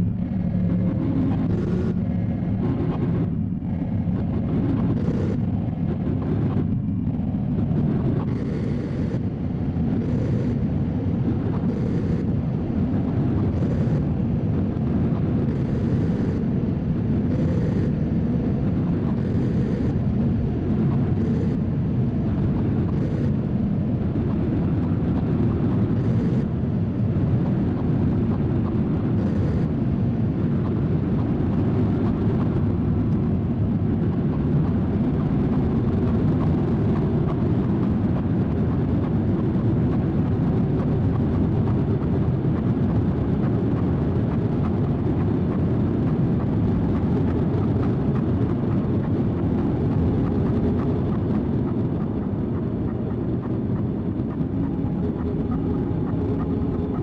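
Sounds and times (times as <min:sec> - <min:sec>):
distorted noise drone: 0:00.0 - 0:57.0.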